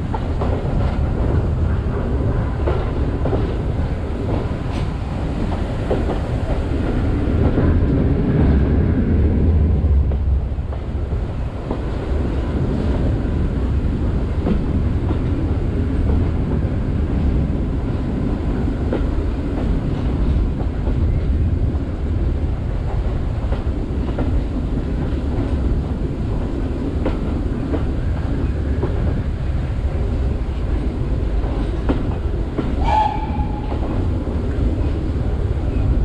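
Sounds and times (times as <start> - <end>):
railway carriage rumble: 0.0 - 36.0.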